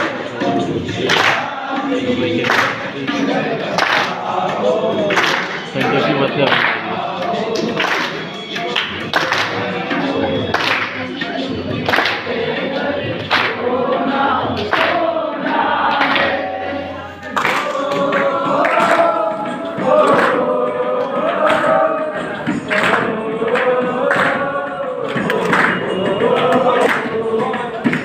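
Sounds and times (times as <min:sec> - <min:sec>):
group of voices singing: 0:00.0 - 0:28.0
sharp rhythmic beats: 0:00.0 - 0:28.0.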